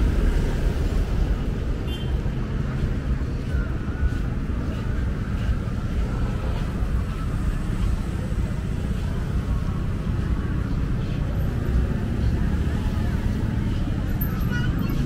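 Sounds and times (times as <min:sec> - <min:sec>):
motorbike and car engines passing: 0:00.0 - 0:15.0.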